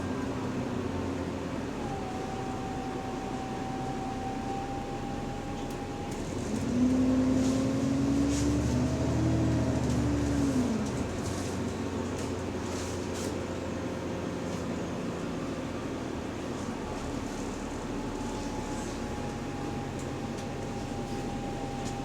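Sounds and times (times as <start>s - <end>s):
bus drivetrain rumble: 0.0s - 22.0s.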